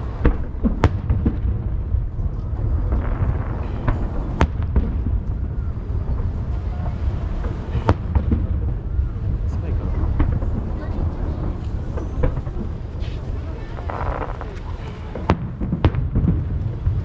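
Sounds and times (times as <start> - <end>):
echoing booms rumble: 0.0 - 17.0
fireworks bangs: 0.0 - 17.0.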